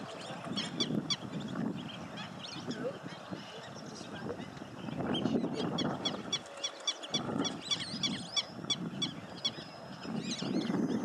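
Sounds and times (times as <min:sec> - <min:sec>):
birds chirping rapidly: 0:00.0 - 0:11.0.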